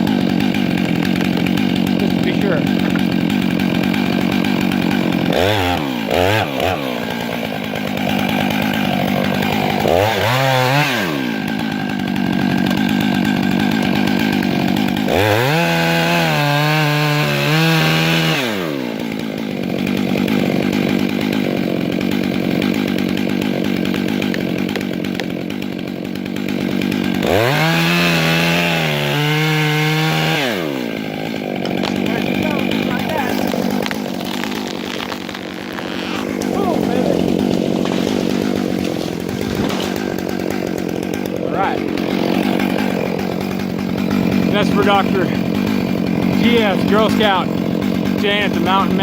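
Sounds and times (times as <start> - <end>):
chainsaw cutting: 0.0 - 49.0.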